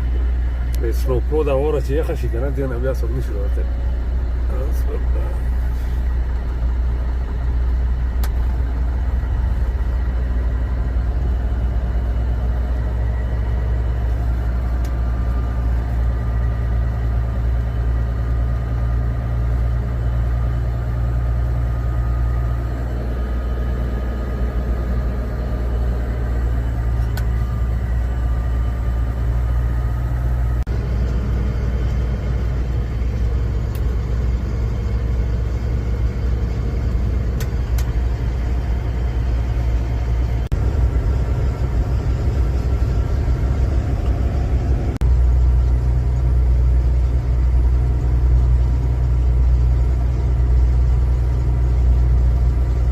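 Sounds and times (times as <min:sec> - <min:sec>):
vehicle engine and road rumble: 0:00.0 - 0:52.9.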